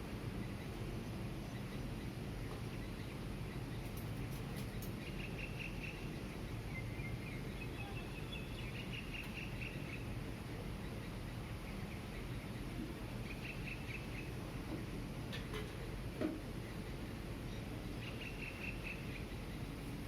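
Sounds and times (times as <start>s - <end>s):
distant city traffic hum: 0.0s - 20.0s
small bird chirping: 1.4s - 14.4s, 16.6s - 20.0s.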